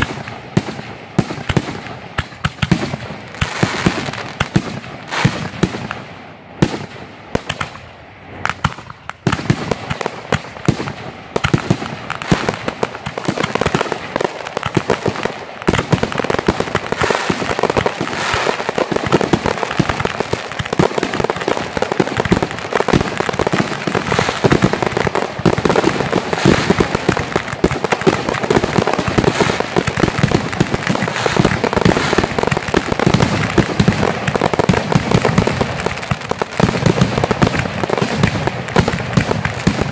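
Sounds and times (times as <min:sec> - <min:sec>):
fireworks bursting: 0:00.0 - 0:39.9
fireworks crackle: 0:00.0 - 0:39.9.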